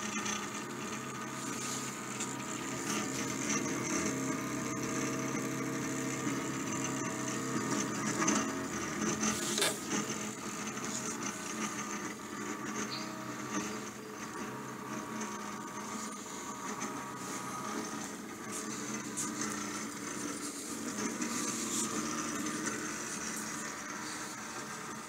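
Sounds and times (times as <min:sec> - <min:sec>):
printer motors whirring: 0:00.0 - 0:25.0
printer rattle: 0:00.0 - 0:25.0.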